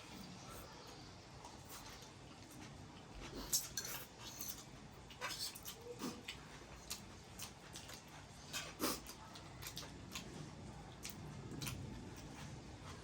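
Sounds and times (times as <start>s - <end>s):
mouth sounds of eating: 0.0s - 13.0s.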